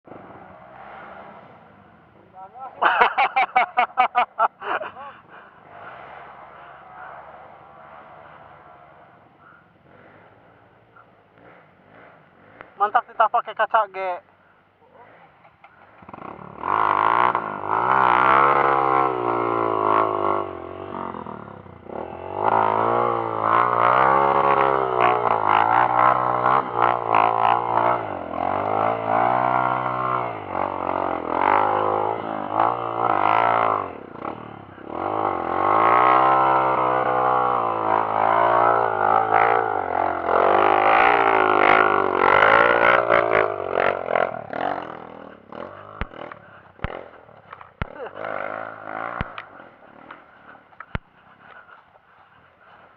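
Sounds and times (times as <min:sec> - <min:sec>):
motorcycle engine revving: 0:00.1 - 0:13.2, 0:14.9 - 0:52.9.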